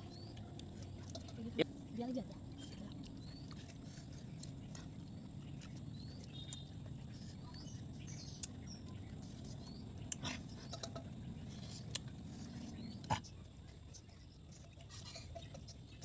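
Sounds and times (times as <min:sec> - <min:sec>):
low outdoor background: 0:00.0 - 0:16.0
small birds chirping: 0:00.0 - 0:16.0.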